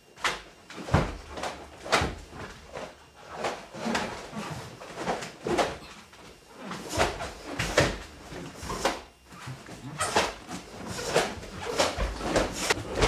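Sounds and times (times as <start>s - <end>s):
bare feet on wooden floor: 0.7s - 13.0s.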